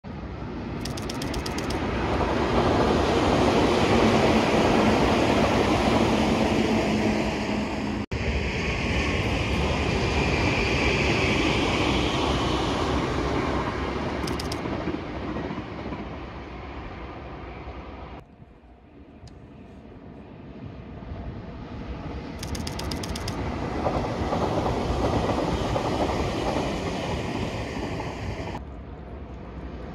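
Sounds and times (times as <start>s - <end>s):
train running on rails: 0.1s - 29.9s.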